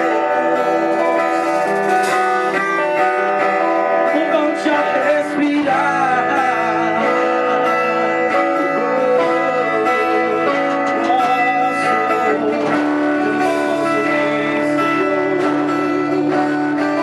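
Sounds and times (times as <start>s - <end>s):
band playing guitar and chords: 0.0s - 17.0s
person singing: 2.9s - 17.0s.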